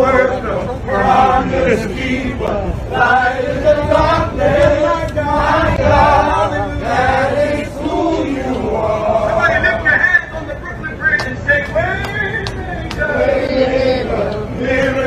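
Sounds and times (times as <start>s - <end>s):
crowd singing in unison: 0.0s - 10.2s, 11.3s - 15.0s
outdoor crowd noise: 0.0s - 15.0s.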